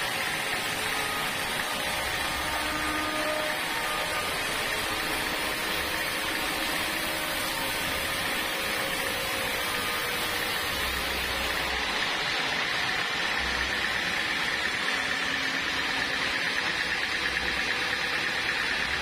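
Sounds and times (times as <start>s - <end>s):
band saw blade cutting wood: 0.0s - 19.0s
saw motor running: 0.0s - 19.0s.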